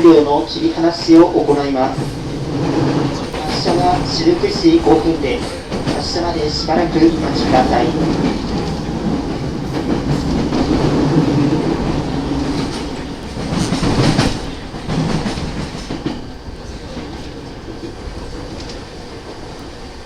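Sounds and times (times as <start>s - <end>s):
wheels rattling over track: 0.0s - 19.9s.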